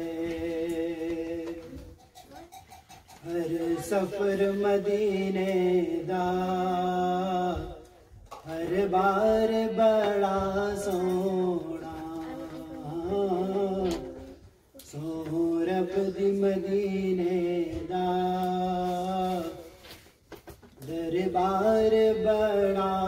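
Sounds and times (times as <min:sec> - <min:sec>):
man singing unaccompanied: 0:00.0 - 0:02.0, 0:03.2 - 0:19.8, 0:20.8 - 0:23.0.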